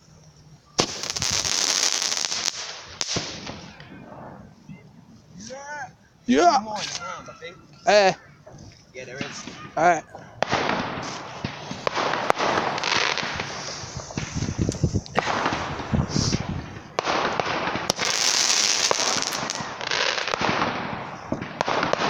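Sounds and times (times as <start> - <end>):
fireworks hissing: 0.0 - 22.0
firework bangs and crackles: 0.7 - 5.6, 7.9 - 22.0.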